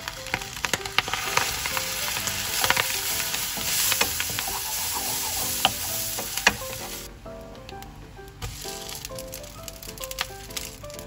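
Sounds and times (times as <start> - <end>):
loud sizzling in a pan: 0.0 - 7.1, 8.3 - 11.0.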